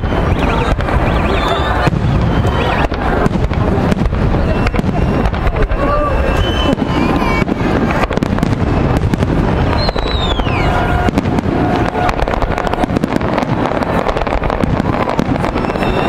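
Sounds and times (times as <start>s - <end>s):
falling firework whistle: 0.0s - 16.0s
fireworks bursting and crackling: 0.0s - 16.0s.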